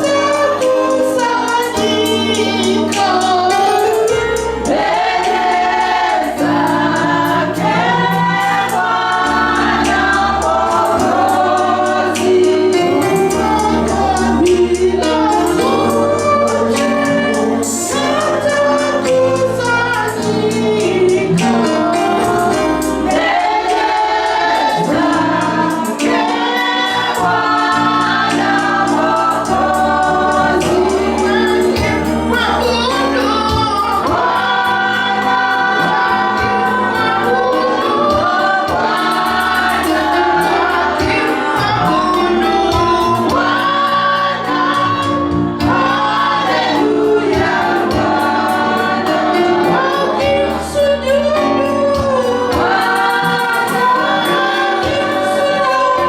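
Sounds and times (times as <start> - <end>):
choir singing gospel music: 0.0 - 56.0.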